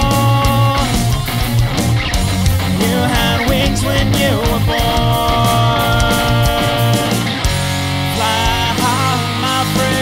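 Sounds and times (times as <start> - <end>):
electric guitar melody bending: 0.0 - 10.0
rock band music: 0.0 - 10.0.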